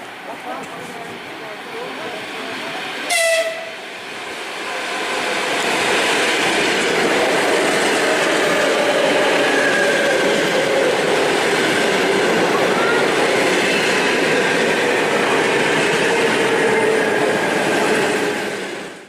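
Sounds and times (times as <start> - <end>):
electric train rolling: 0.0 - 19.0.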